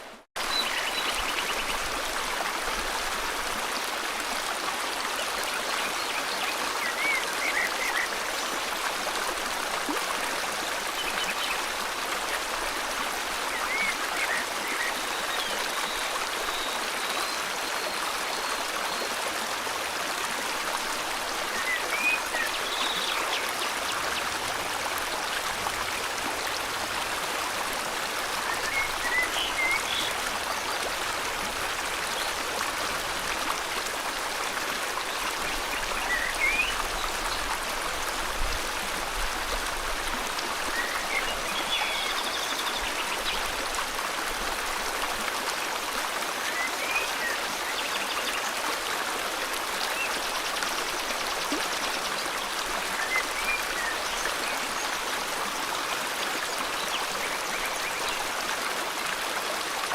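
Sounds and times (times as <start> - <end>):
river water rushing: 0.1 - 59.9.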